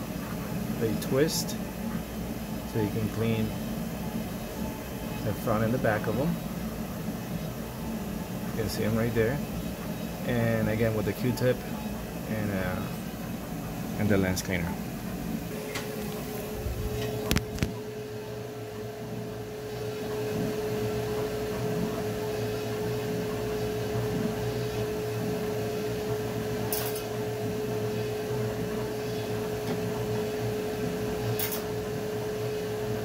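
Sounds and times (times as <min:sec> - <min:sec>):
machine hum with steady tone: 0:00.0 - 0:33.0.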